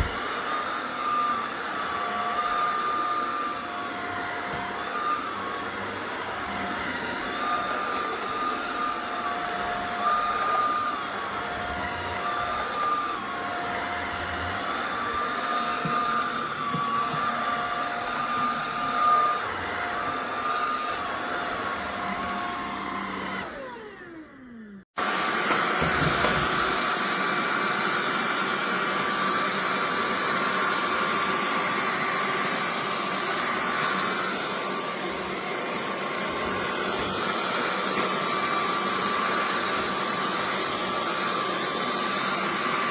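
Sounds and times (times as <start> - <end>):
stick vacuum whining: 0.0 - 42.9.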